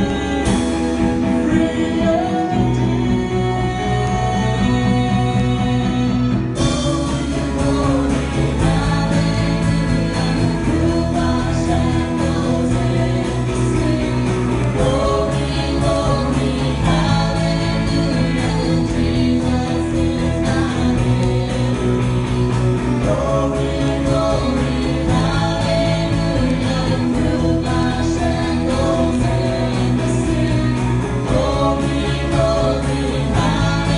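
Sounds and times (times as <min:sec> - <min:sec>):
bass notes: 0:00.0 - 0:33.9
guitar: 0:00.0 - 0:33.9
person singing: 0:00.0 - 0:33.9.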